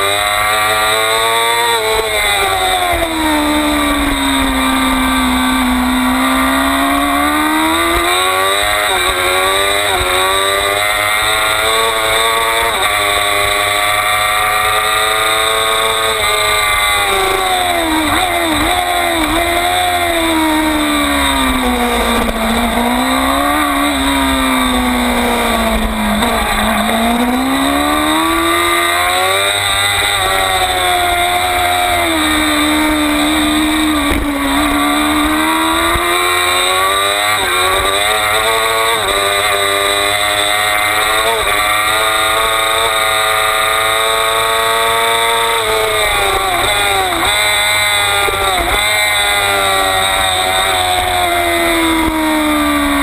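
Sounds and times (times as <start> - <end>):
motorcycle engine at high revs: 0.0 - 53.0.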